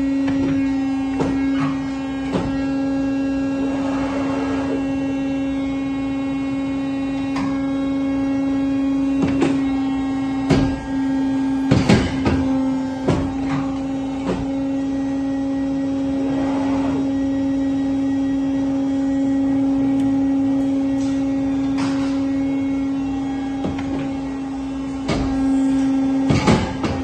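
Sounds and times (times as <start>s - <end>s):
paper guillotine motor hum: 0.0s - 27.0s.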